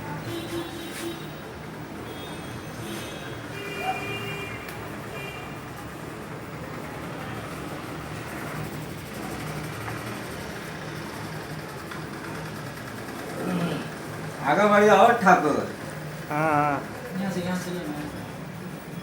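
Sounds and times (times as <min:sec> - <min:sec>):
traffic rumble and hiss: 0:00.0 - 0:19.0.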